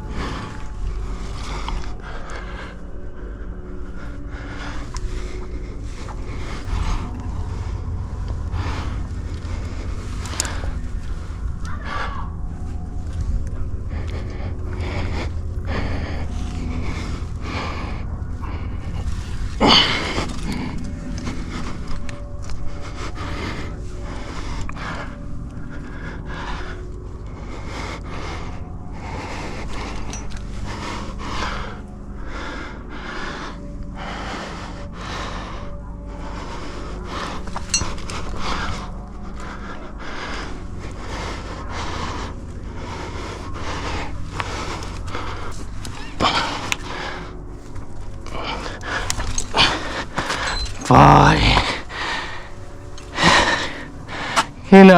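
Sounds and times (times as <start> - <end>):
person breathing hard: 0.0 - 54.9
steady low rumble: 0.0 - 54.9.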